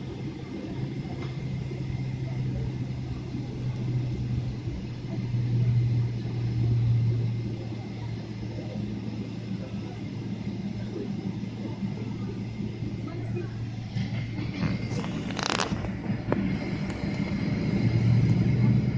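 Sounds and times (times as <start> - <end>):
faint high engine whine: 0.0 - 18.9
jet engines humming in cabin: 0.0 - 18.9.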